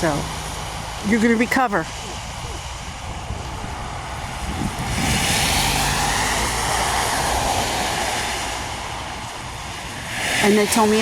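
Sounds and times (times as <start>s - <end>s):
low engine rumble: 0.0s - 11.0s
tyre hiss on wet road: 0.0s - 11.0s.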